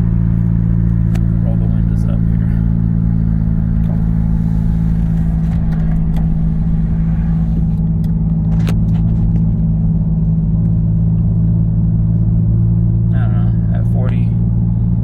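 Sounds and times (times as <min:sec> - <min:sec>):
exhaust drone: 0:00.0 - 0:15.0
road noise inside car: 0:00.0 - 0:15.0.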